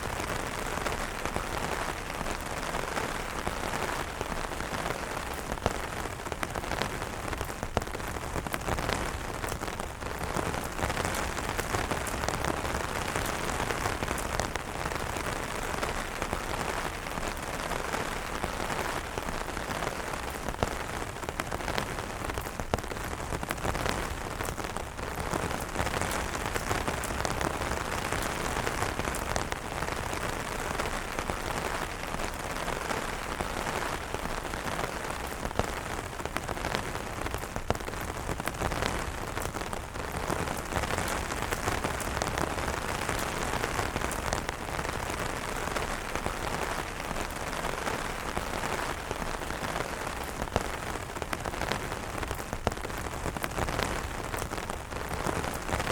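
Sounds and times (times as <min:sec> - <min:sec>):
rain pattering on umbrella: 0:00.0 - 0:55.9.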